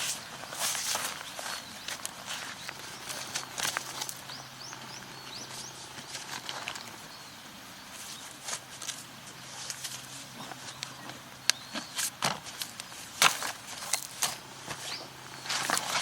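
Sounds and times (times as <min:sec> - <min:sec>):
bird chirping: 0:00.0 - 0:08.6, 0:09.2 - 0:13.2, 0:14.0 - 0:16.0.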